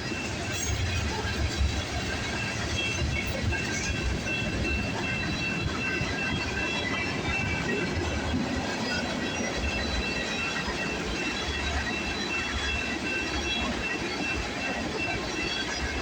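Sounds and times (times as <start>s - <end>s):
freight train cars rumbling: 0.0s - 16.0s.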